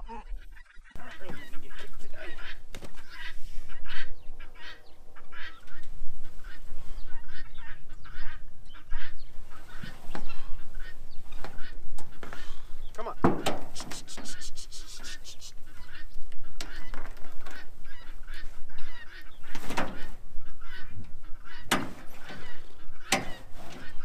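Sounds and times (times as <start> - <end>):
fowl honking calls: 0.0 - 24.0.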